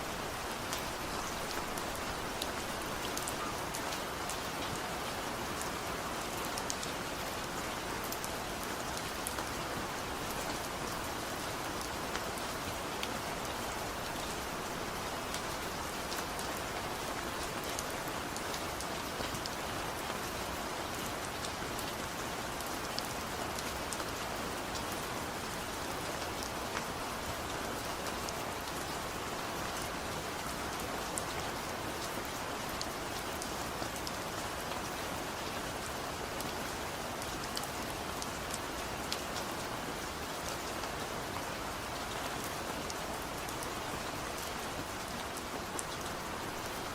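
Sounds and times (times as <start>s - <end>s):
gentle rain hissing: 0.0s - 46.9s.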